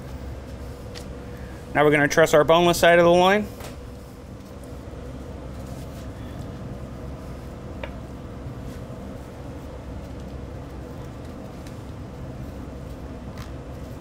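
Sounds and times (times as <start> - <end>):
low background rumble and hum: 0.0 - 14.0.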